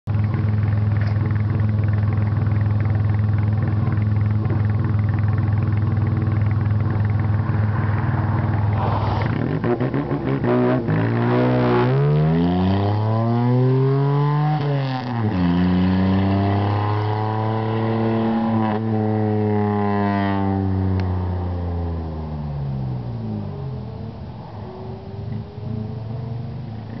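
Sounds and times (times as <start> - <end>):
car engine revving raspy exhaust: 0.1 - 27.0.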